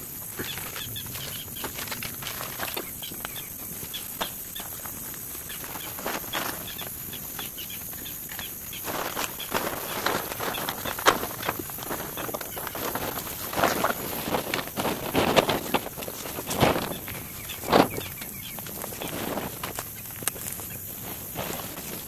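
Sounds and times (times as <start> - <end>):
camping gear rustling and clicking: 0.0 - 22.0.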